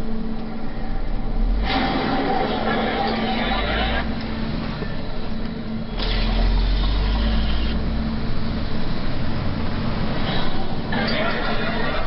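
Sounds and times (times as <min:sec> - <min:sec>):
road noise: 0:00.0 - 0:12.0
truck diesel engine hum: 0:00.0 - 0:12.0.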